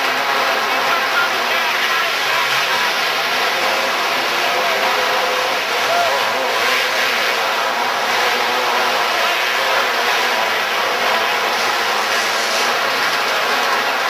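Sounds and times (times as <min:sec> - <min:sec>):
dirt kart engines racing: 0:00.0 - 0:14.0.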